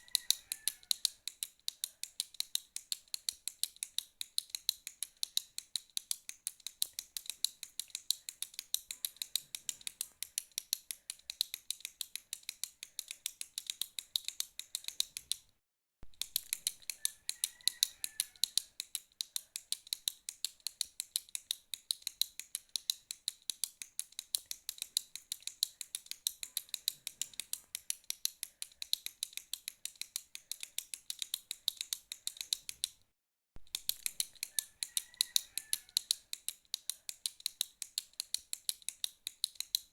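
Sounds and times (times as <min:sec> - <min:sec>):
retractable pen clicking: 0:00.1 - 0:15.5, 0:16.1 - 0:33.0, 0:33.6 - 0:39.9.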